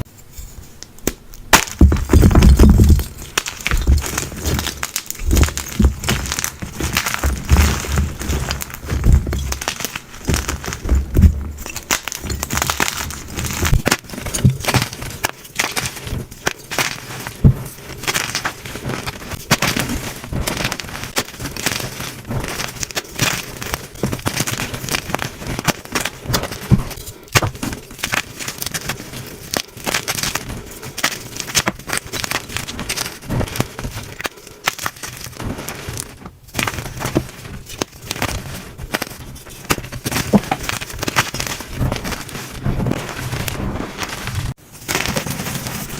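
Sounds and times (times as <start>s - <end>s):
chalk being crushed: 0.8s - 45.9s.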